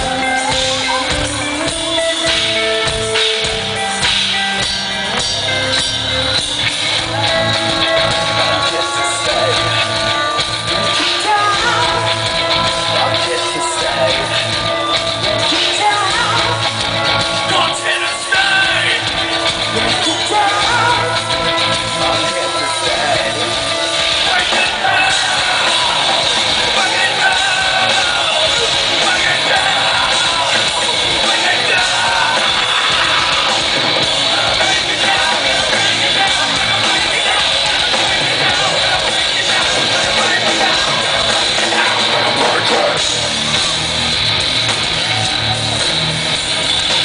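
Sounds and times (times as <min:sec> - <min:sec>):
sung and yelled vocals: 0:00.0 - 0:44.1
live heavy metal band: 0:00.0 - 0:47.0.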